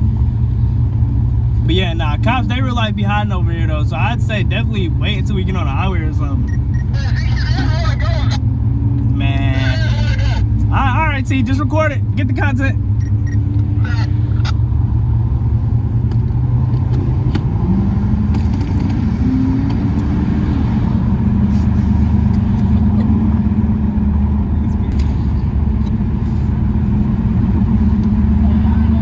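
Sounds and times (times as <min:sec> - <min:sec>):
car engine running: 0:00.0 - 0:29.0
road rumble: 0:00.0 - 0:29.0.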